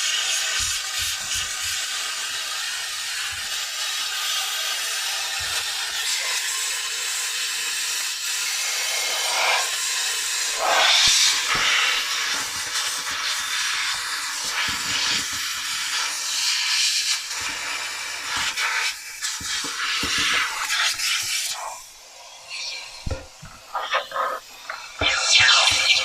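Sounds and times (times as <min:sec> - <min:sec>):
steam cleaner hissing: 0:00.0 - 0:26.0.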